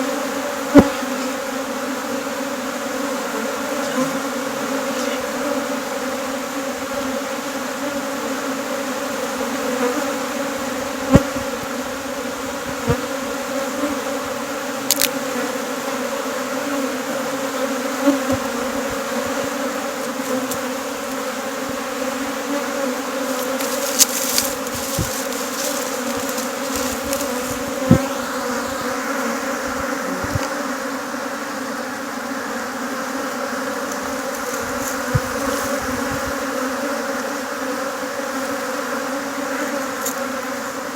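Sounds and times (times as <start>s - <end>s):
swarm of bees buzzing: 0.0s - 40.9s.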